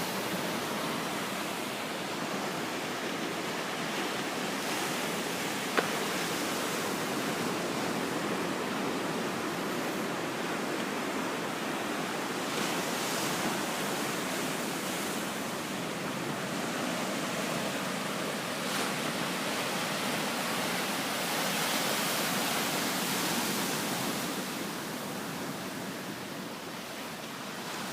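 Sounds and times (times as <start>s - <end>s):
sea surf washing onto beach: 0.0s - 27.9s.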